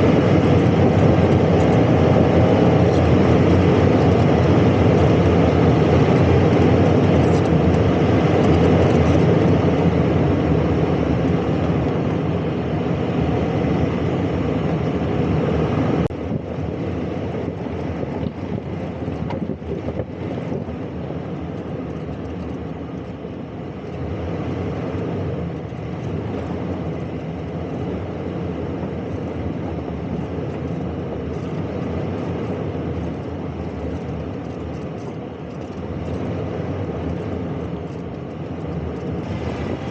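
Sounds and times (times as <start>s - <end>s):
suv engine: 0.0s - 39.9s.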